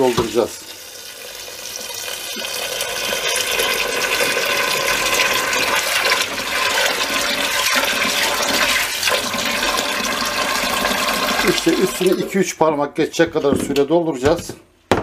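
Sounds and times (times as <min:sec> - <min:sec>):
tap water pouring into a pot: 0:00.0 - 0:12.4.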